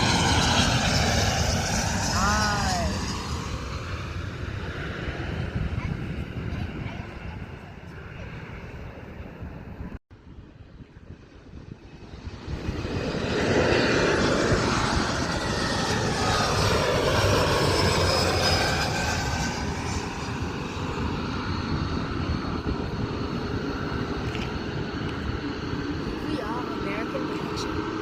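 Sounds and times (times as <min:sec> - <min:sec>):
plane flying past: 0:00.0 - 0:28.0.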